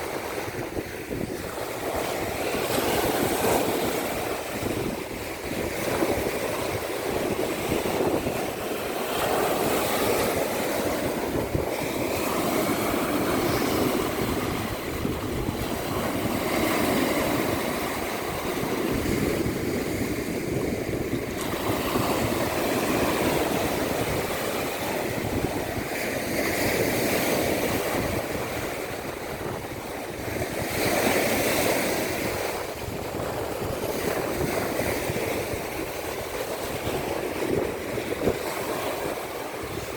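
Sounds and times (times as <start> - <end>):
surf washing onto shore: 0.0 - 39.9
wind buffeting microphone: 0.0 - 39.9.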